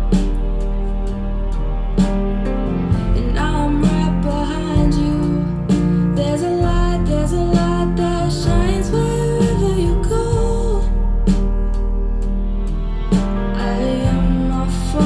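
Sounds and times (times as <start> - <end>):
slow instrumental song over loudspeakers: 0.0 - 15.0.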